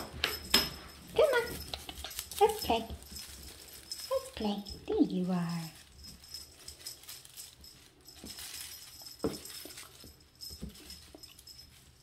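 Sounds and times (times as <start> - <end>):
feather toy rustling: 0.0 - 12.0.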